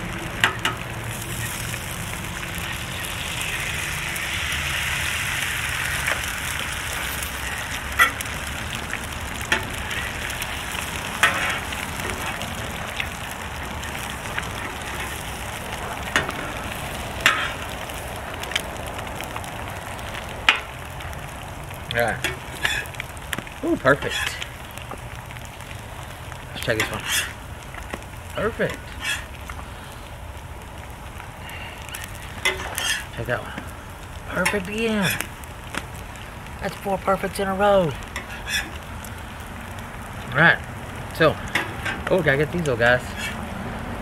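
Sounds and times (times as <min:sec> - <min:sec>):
eggs and bacon sizzling on griddle: 0:00.0 - 0:44.0.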